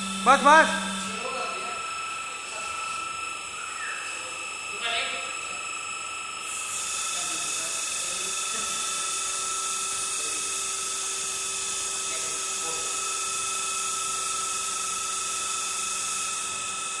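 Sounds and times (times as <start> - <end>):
hydraulic motor and pump whining: 0.0 - 17.0.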